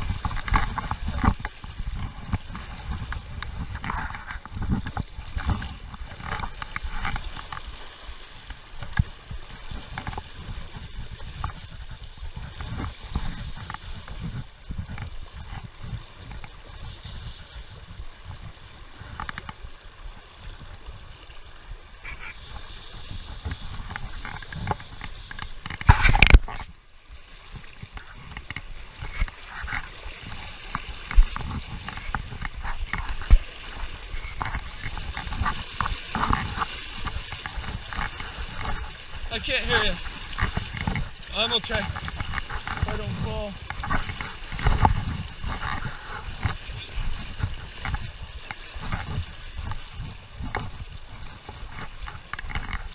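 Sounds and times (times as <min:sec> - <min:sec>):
river water sloshing and gurgling: 0:00.0 - 0:52.9.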